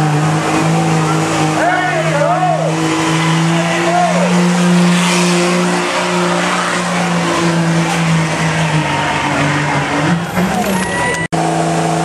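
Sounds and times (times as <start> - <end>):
diesel truck engine at full load: 0.0 - 12.0.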